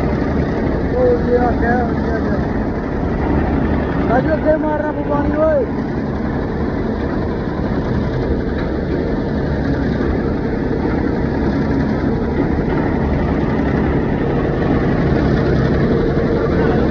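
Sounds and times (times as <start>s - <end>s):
boring machine engine drone: 0.0s - 16.9s.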